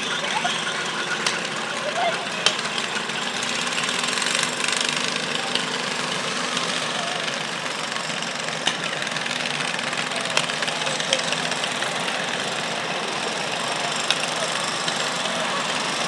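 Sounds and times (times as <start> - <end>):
people talking: 0.0 - 16.0
small tractor engine running: 0.0 - 16.0.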